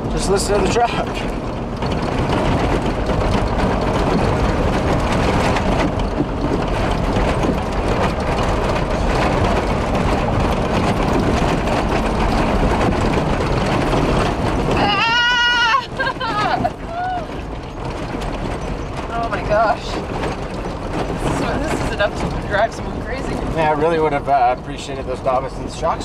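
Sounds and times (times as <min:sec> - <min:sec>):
cabin rattling and clattering: 0:00.0 - 0:25.1
engine and tyres droning: 0:00.0 - 0:26.0.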